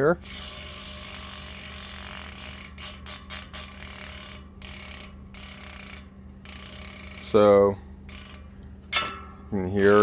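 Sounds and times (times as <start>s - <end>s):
bicycle freehub ticking: 0.2s - 9.2s, 9.8s - 10.0s.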